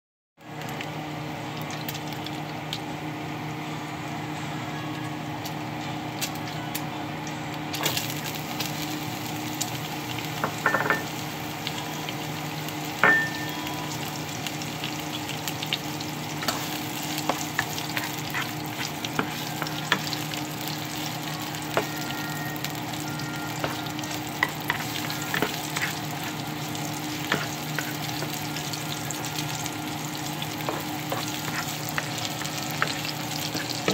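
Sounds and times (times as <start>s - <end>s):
bacon and onion sizzling in oil: 0.4s - 4.2s, 7.5s - 33.9s.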